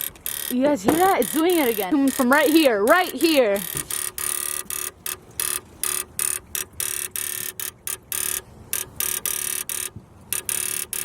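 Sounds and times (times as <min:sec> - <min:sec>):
electrical relay buzzing: 0:00.0 - 0:11.0.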